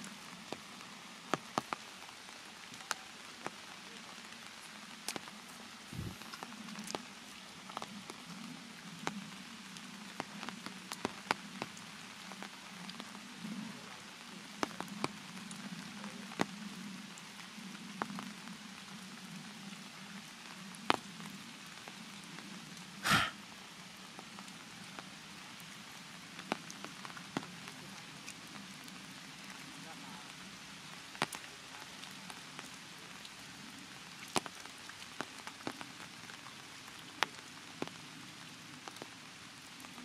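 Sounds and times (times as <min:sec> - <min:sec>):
raindrops falling on wet leaves: 0:00.0 - 0:40.0.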